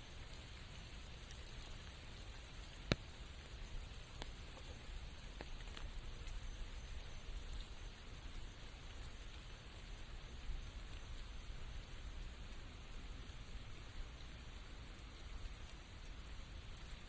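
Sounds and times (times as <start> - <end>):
rain falling through forest: 0.0 - 17.0
sharp raindrop drips: 0.0 - 17.0.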